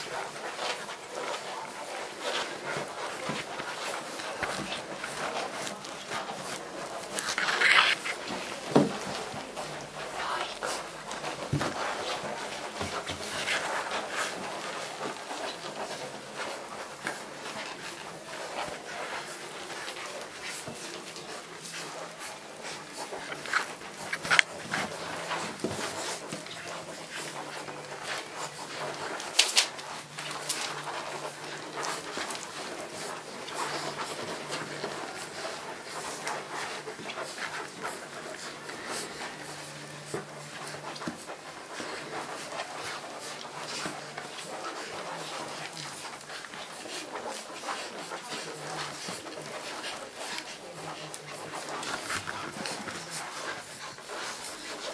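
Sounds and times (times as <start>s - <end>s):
puppies suckling: 0.1s - 54.9s.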